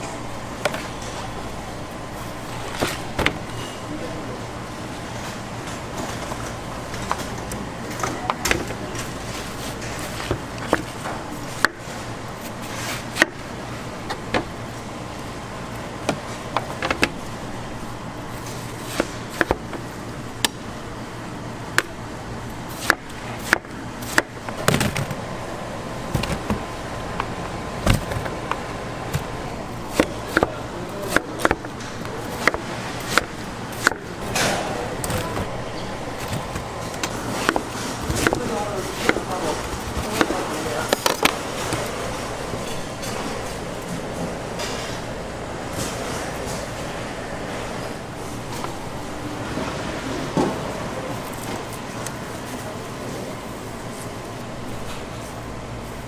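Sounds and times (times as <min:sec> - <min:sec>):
steady background hum: 0:00.0 - 0:56.0.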